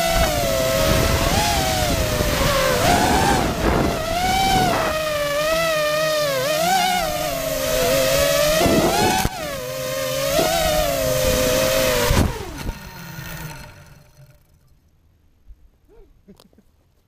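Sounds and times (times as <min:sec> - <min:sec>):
drone motors whining: 0:00.0 - 0:14.8.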